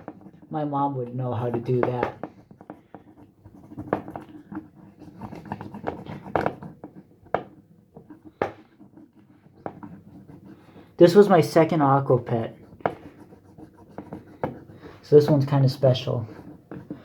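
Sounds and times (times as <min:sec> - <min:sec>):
plastic toy scraping and rubbing: 0:00.0 - 0:17.0.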